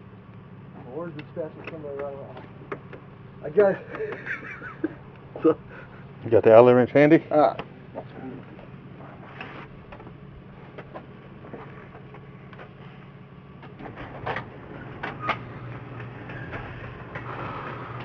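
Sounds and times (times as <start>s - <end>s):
engine idling: 0.1s - 18.0s.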